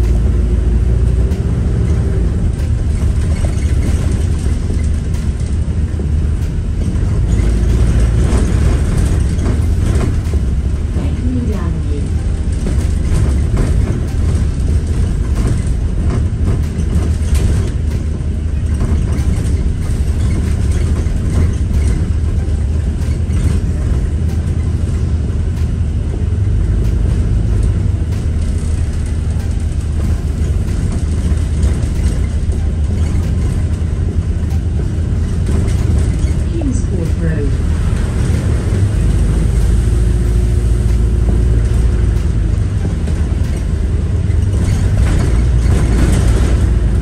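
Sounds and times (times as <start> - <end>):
bus engine drone: 0.0 - 47.0.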